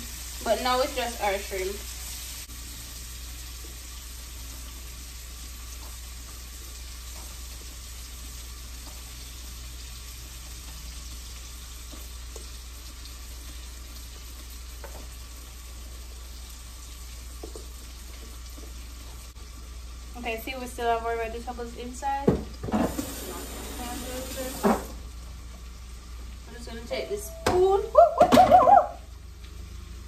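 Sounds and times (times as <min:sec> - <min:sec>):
curry sizzling in oil: 0:00.0 - 0:30.0.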